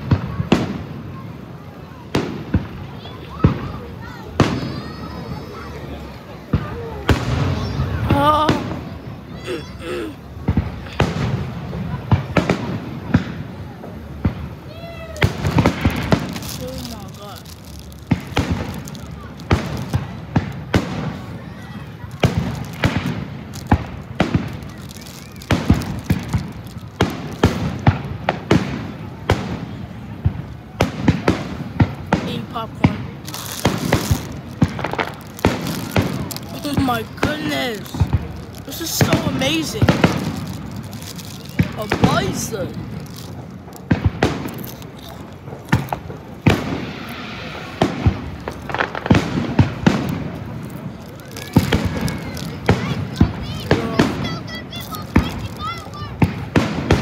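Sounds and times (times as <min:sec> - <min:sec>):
fireworks bangs with echo: 0:00.0 - 0:09.4, 0:10.3 - 0:57.0.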